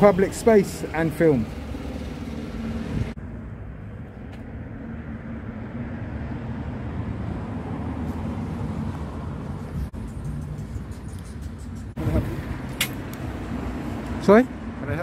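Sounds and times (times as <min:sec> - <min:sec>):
street traffic noise: 0:00.0 - 0:15.0
vehicle engine rumbling: 0:00.0 - 0:15.0.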